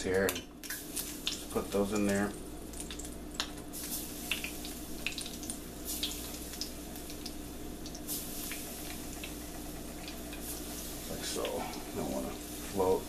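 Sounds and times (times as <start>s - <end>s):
crackles and pops of frying: 0.0s - 13.0s
oil sizzling in pan: 0.0s - 13.0s.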